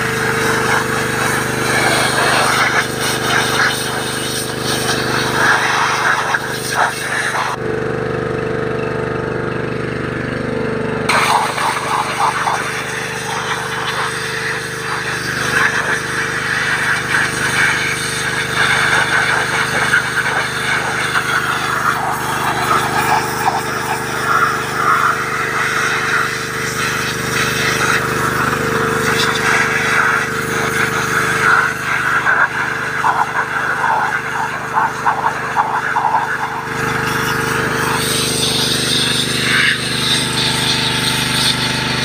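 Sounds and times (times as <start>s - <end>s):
pressure washer spray hissing: 0.0s - 7.6s, 11.1s - 42.0s
pressure washer motor hum: 0.0s - 42.0s.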